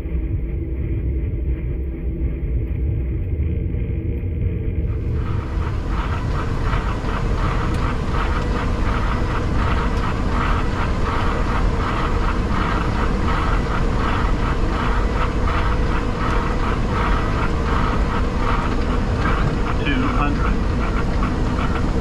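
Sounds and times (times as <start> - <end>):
airflow and engine rumble: 0.0 - 22.0.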